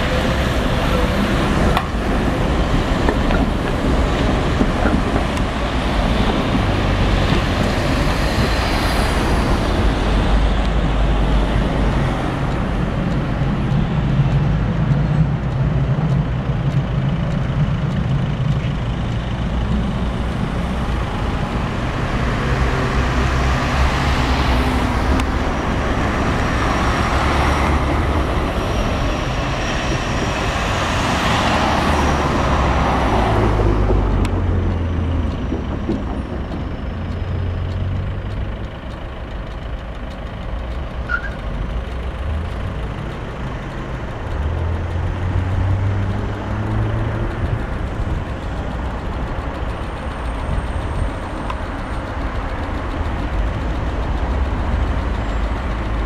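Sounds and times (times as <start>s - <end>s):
traffic rumble of engines and tyres: 0.0s - 56.0s.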